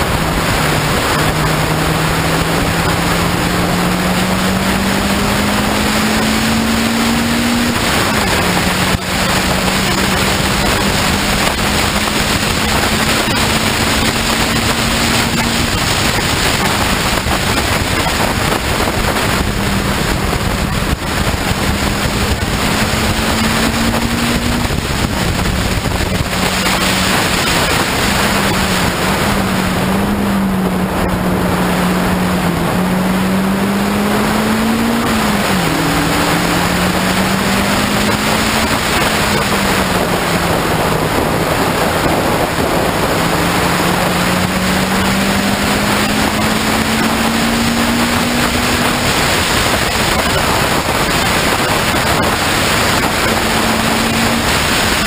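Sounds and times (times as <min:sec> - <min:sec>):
car engine racing: 0:00.0 - 0:55.0
wind noise on microphone: 0:00.0 - 0:55.0.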